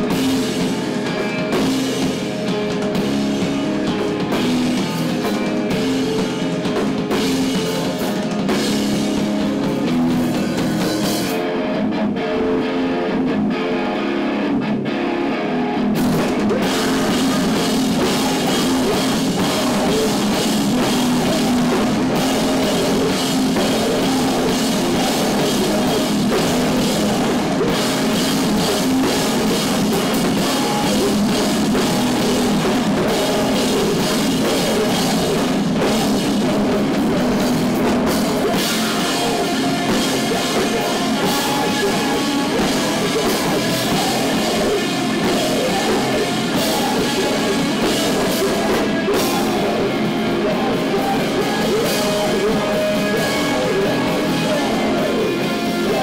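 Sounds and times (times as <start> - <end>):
distorted electric guitars: 0.0 - 56.0
drum kit: 0.0 - 56.0.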